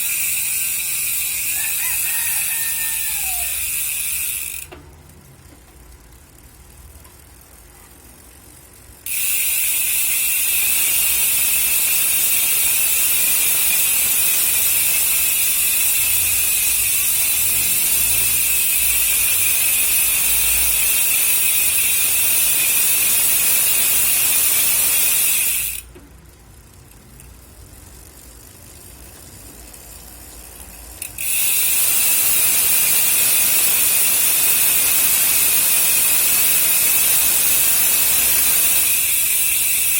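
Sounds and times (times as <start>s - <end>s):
bicycle hub freewheeling buzz: 0.0s - 39.9s.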